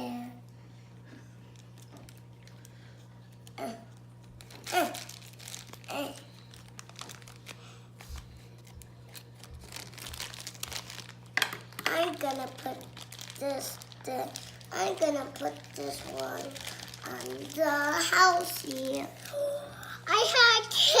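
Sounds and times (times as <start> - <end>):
plastic packaging crinkling and tearing: 1.4 - 21.0.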